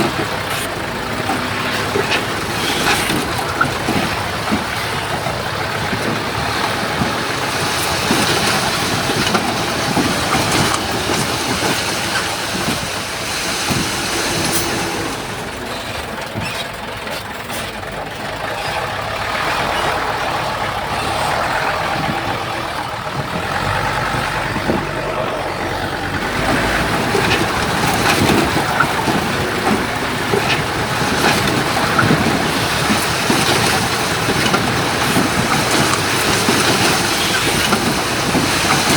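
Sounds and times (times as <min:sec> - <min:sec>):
diesel engines under load: 0:00.0 - 0:38.9
metal clanking and scraping: 0:00.0 - 0:38.9.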